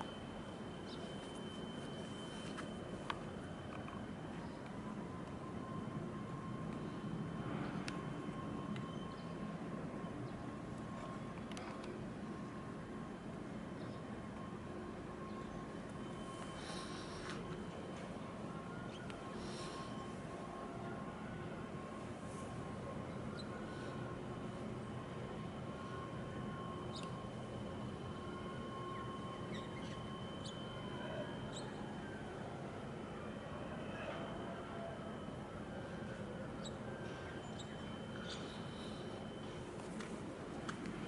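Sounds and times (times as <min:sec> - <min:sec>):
faint high-pitched tone: 0:00.0 - 0:40.5
distant harbour rumble: 0:00.0 - 0:41.0
faint constant hum: 0:00.0 - 0:41.0.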